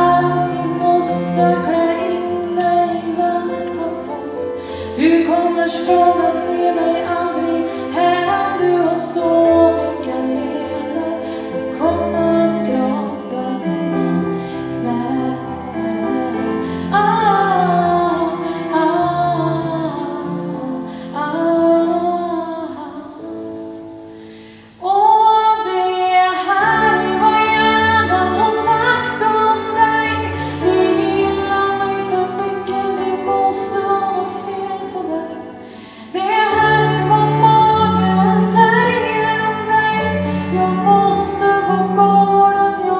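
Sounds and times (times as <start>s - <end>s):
woman singing into microphone: 0.0s - 24.0s, 24.6s - 42.9s.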